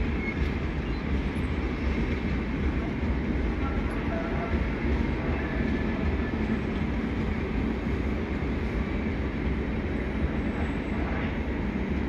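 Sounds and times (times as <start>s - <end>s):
passenger train rumble: 0.0s - 12.0s.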